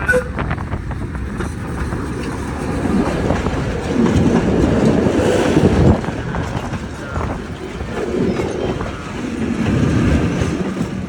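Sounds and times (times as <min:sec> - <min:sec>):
tram wheels clattering on rails: 0:00.0 - 0:11.0.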